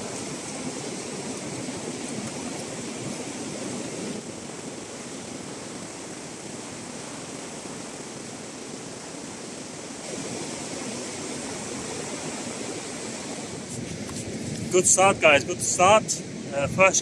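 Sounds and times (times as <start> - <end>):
surf washing up a beach: 0.0 - 17.0.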